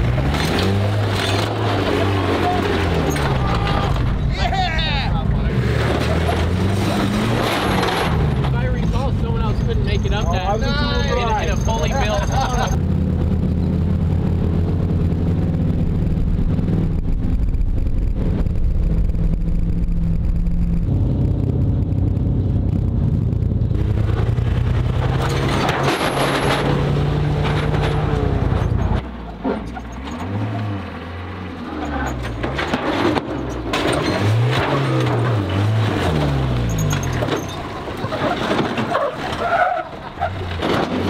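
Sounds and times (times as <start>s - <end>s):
off-road vehicle engine: 0.0s - 41.0s.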